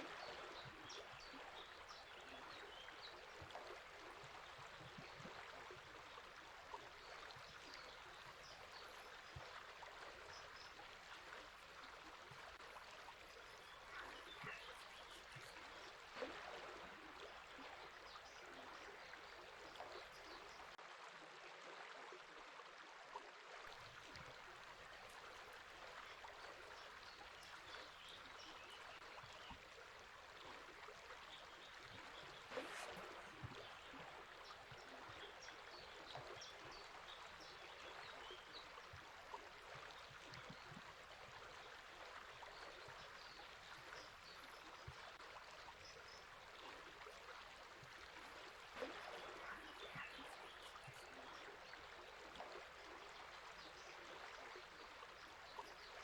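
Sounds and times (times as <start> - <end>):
river flowing: 0.0 - 20.8, 23.7 - 56.0.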